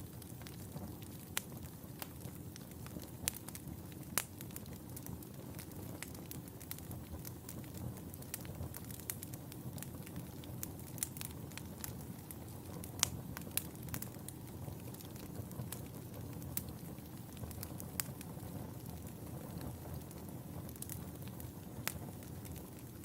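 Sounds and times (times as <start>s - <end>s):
fire crackling and popping: 0.0s - 23.0s
low rumble of fire: 0.0s - 23.0s.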